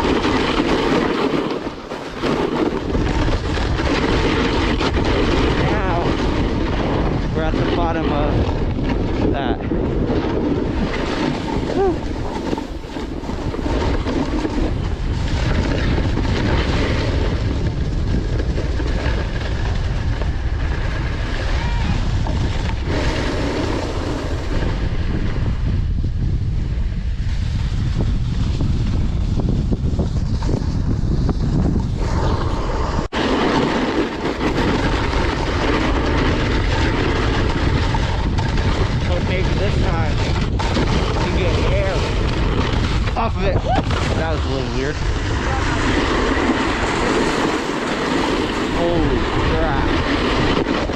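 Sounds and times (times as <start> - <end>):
snowboard scraping snow: 0.0 - 50.9
wind rushing over microphone: 0.0 - 50.9.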